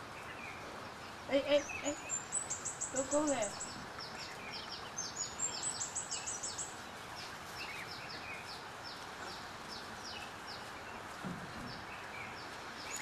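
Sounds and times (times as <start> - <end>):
outdoor hiss: 0.0 - 13.0
small bird chirping: 0.1 - 13.0.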